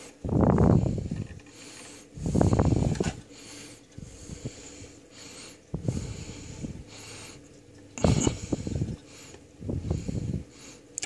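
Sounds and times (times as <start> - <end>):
heavy breathing: 0.0 - 11.0.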